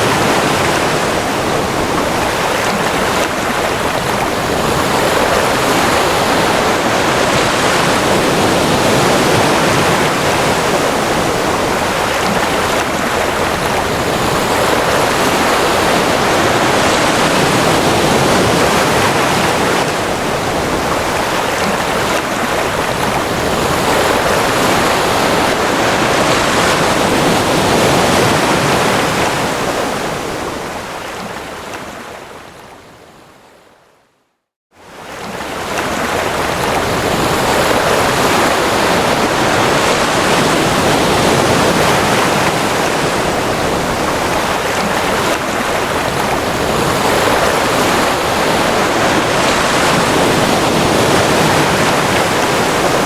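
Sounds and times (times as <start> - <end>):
ocean waves breaking: 0.0 - 33.3, 34.7 - 53.0.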